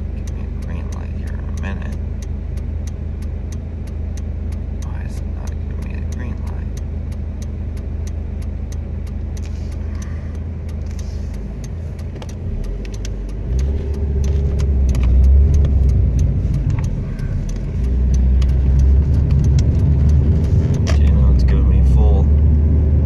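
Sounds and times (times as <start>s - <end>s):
car engine droning: 0.0s - 23.0s
light ticks: 0.2s - 22.5s.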